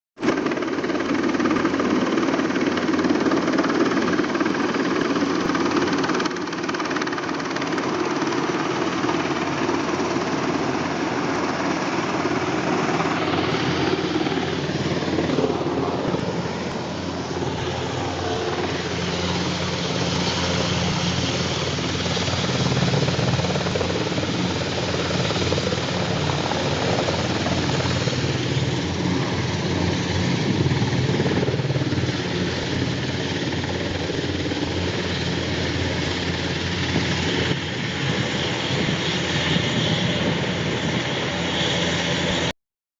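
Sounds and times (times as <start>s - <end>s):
helicopter rotor and engine noise: 0.2s - 42.6s.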